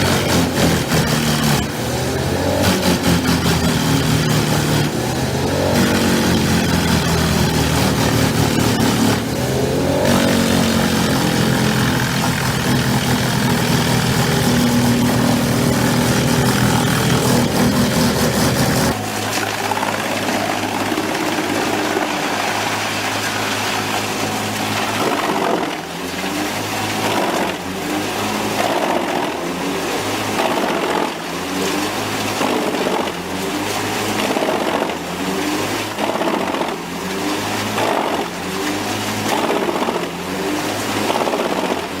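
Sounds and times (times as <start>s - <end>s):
heavy machine engines running: 0.0s - 42.0s.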